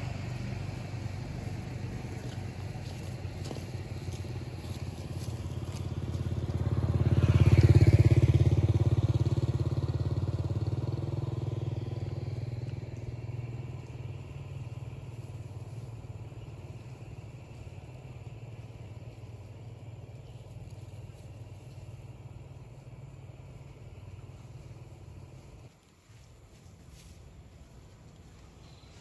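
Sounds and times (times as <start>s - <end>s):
vehicle engine passing: 0.0s - 25.8s.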